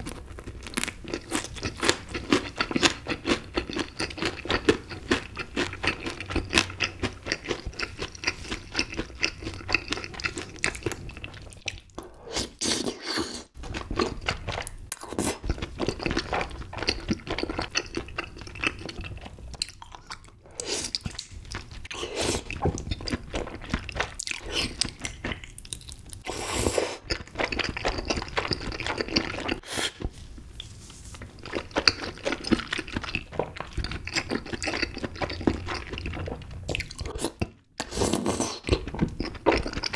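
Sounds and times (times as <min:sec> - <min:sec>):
close chewing and biting: 0:00.0 - 0:12.1, 0:12.7 - 0:30.0, 0:31.2 - 0:39.9.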